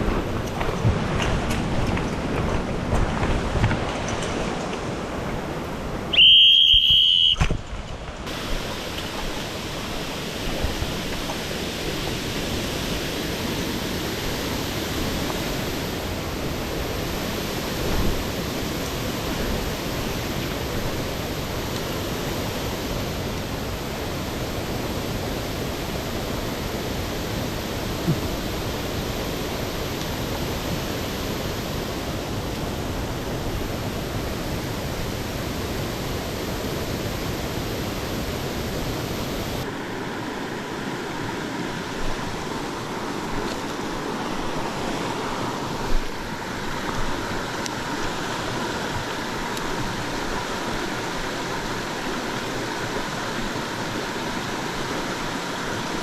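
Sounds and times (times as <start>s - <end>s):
water rushing over rocks: 8.2s - 56.0s.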